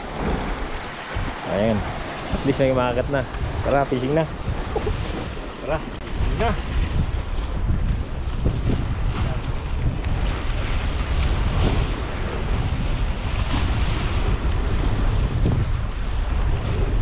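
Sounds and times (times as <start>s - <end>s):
sea waves washing: 0.0s - 17.0s
wind buffeting microphone: 0.0s - 17.0s.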